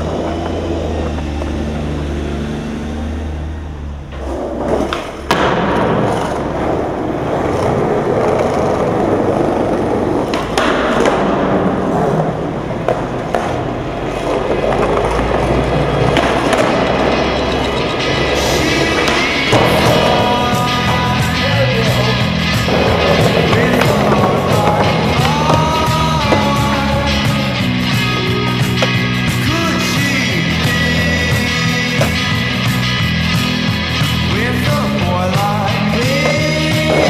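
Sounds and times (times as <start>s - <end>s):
skateboard clacks: 0.0s - 1.8s, 4.1s - 37.0s
skateboard wheels rolling on pavement: 0.0s - 37.0s.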